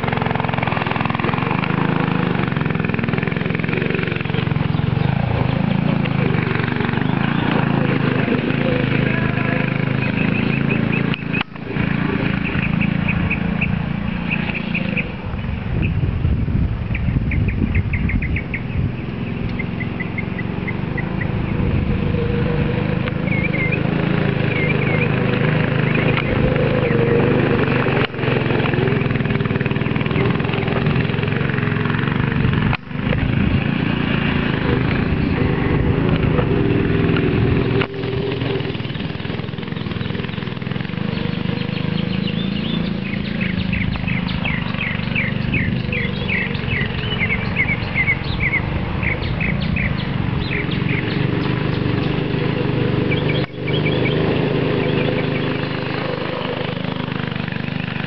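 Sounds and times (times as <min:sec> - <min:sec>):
birds chirping: 0:00.0 - 0:58.0
go-kart engine running: 0:00.0 - 0:58.0.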